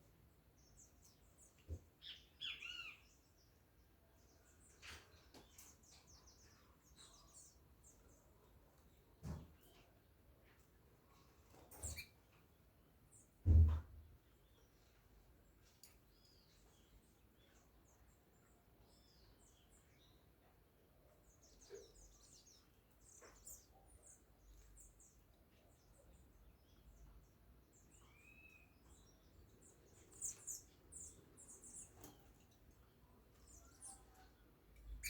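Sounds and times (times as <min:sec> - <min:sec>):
small birds chirping: 0:00.0 - 0:13.4, 0:14.2 - 0:35.0.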